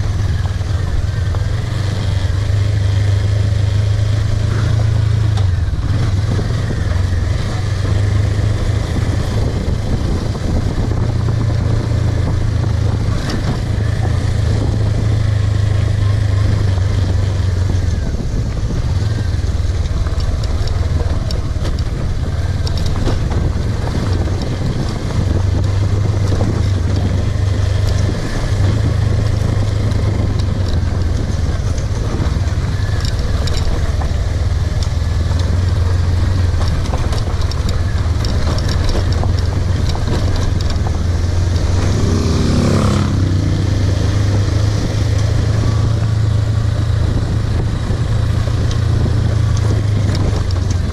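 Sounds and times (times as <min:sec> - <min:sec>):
motorcycle engine rumbling: 0:00.0 - 0:50.9.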